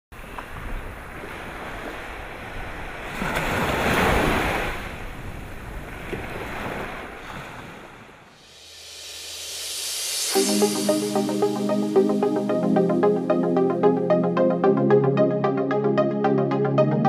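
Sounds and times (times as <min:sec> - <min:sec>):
ocean waves washing in: 0:00.2 - 0:15.6.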